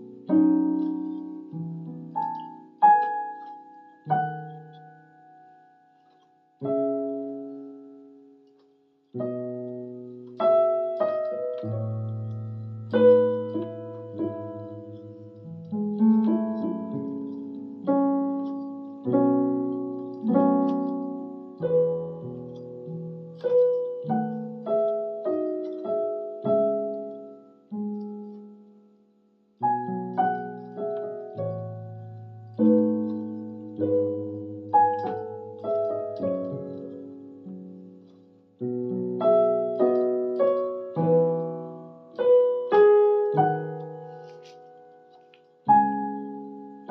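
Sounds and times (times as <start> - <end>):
electronic keyboard piano melody: 0.0 - 46.9.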